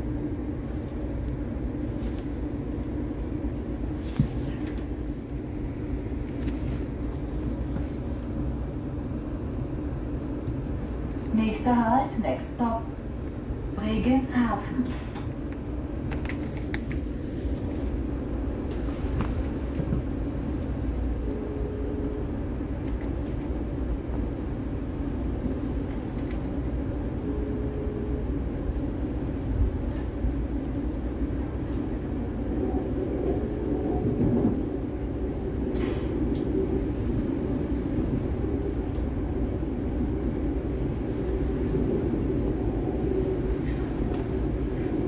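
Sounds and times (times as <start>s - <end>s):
train rumbling along track: 0.0s - 45.0s.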